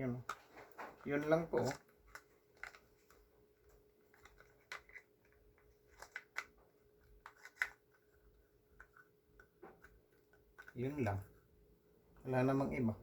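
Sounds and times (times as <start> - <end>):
packaging clicks and taps: 0.2 - 11.2.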